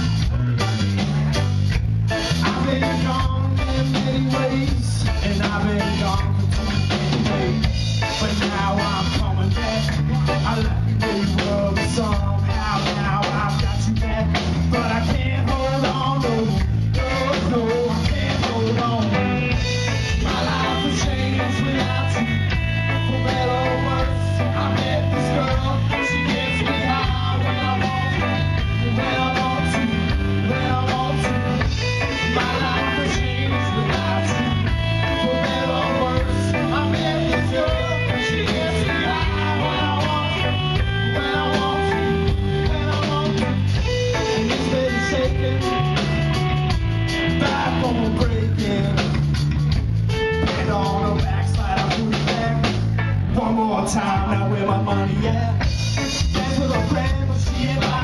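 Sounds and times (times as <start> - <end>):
live rock band playing: 0.0 - 58.0
man singing: 2.2 - 49.4, 50.4 - 58.0.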